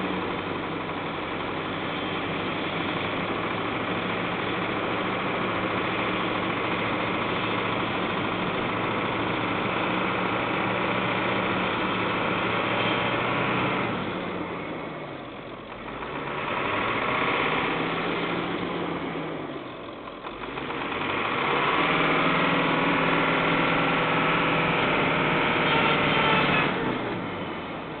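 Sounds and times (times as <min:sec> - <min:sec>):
diesel engine revving under load: 0:00.0 - 0:28.0.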